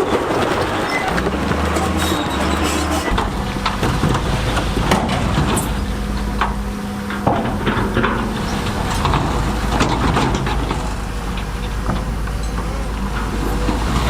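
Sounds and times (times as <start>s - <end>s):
bulldozer diesel engine: 0.0s - 14.0s
metal and stone clanking: 0.0s - 14.0s.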